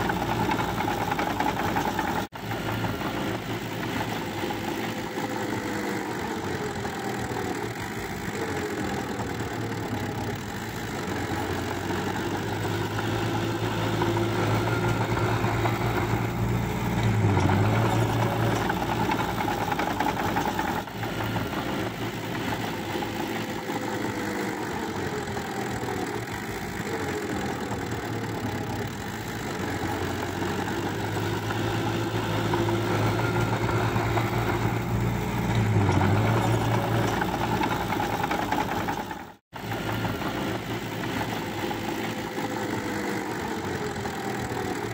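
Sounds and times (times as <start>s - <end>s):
bulldozer diesel engine under load: 0.0s - 44.9s.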